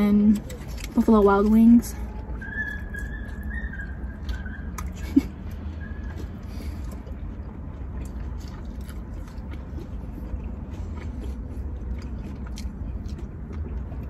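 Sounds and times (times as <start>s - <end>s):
chewing and mouth sounds: 0.0s - 14.0s.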